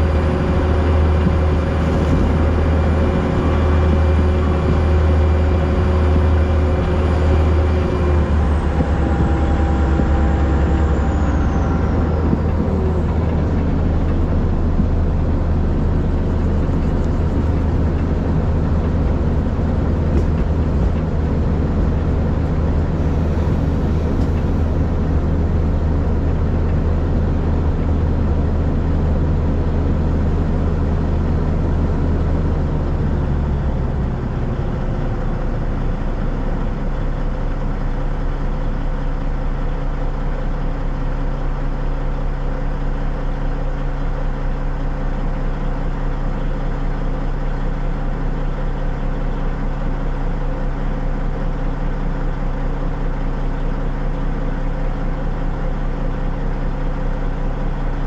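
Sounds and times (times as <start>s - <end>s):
pulsing mechanical hum: 0.0s - 58.0s
steam locomotive low rumble: 0.0s - 58.0s.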